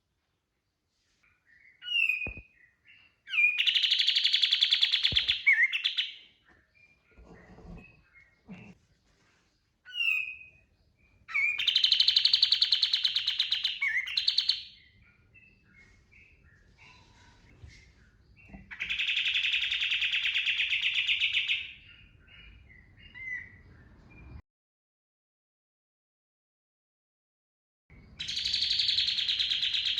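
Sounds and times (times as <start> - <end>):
bird chirps: 1.1 - 24.4, 27.9 - 29.9.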